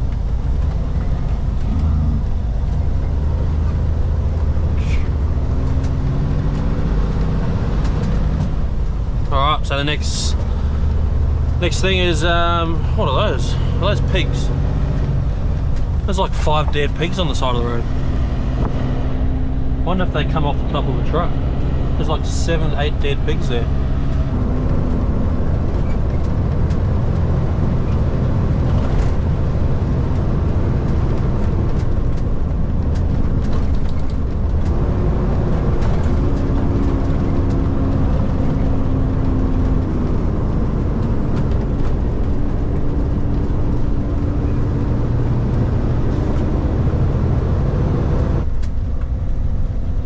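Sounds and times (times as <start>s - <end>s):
truck diesel engine pulling: 0.0s - 50.0s
tyre and road rumble: 0.0s - 50.0s.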